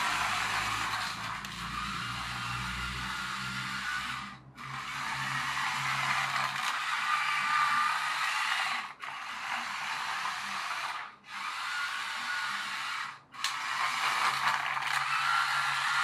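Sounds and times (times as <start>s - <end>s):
toy truck motor whirring: 0.0s - 16.0s.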